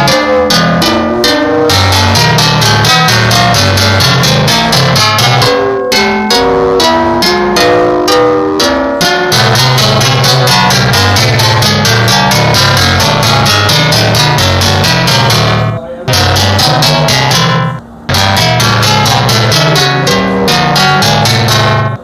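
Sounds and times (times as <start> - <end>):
bass line: 0.0 - 22.0
fast beat: 0.0 - 22.0
plucked guitar-like melody: 0.0 - 22.0.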